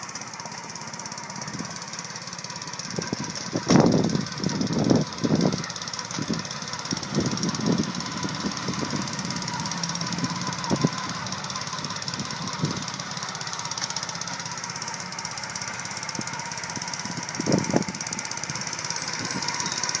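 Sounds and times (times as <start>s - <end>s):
aerator rapid knocking drone: 0.0s - 20.0s.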